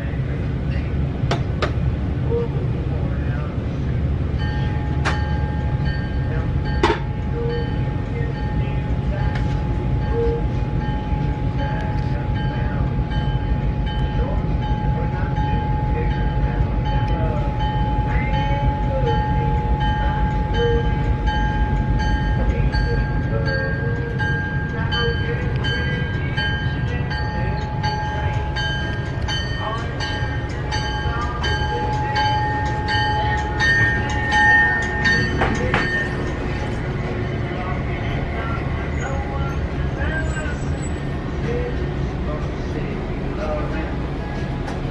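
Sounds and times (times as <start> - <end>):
locomotive low rumble: 0.0 - 44.9.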